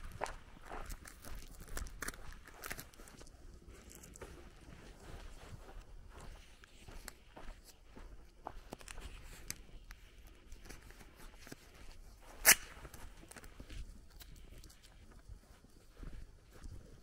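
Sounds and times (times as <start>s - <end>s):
footsteps on grass and dirt: 0.0s - 17.0s.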